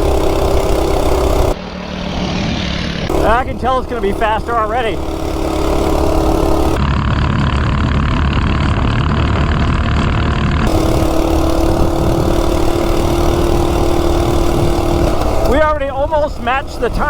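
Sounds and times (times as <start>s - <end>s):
minibike engine running: 0.0s - 17.0s.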